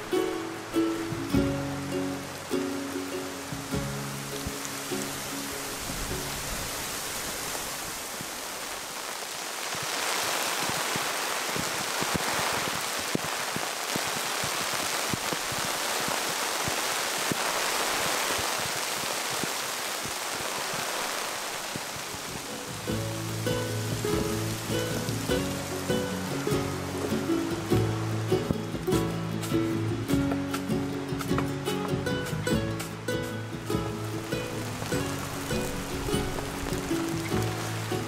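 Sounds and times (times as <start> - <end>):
rain on a tarp: 0.0 - 38.0.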